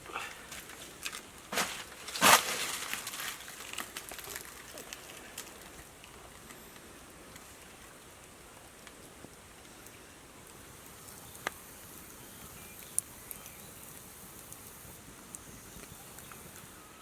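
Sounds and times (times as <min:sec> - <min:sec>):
crackling and rustling handling: 0:00.5 - 0:16.7.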